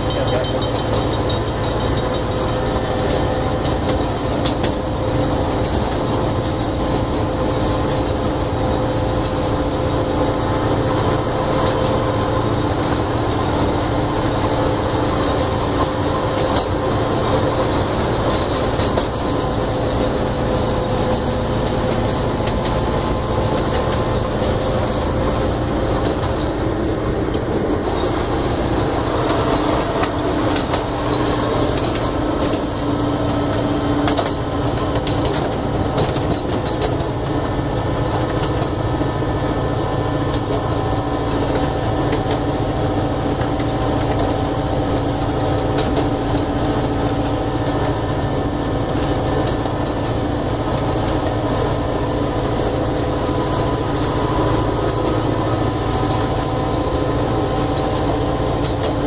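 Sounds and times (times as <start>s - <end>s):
miniature train engine hum: 0.0s - 59.0s
rumbling wheels: 0.0s - 59.0s
wheels clicking over rail joints: 0.0s - 59.0s.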